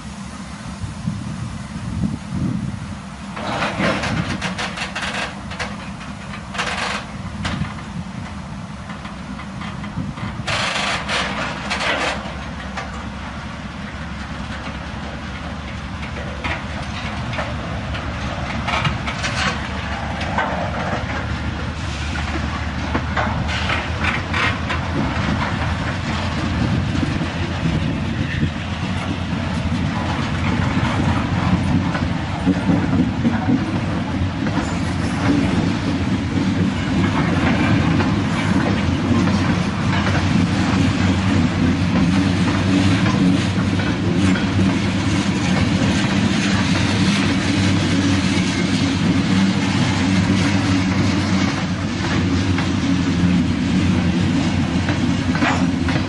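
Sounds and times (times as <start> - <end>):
freight train wheels rumbling: 0.0 - 56.0
wheels clacking over track: 3.3 - 56.0.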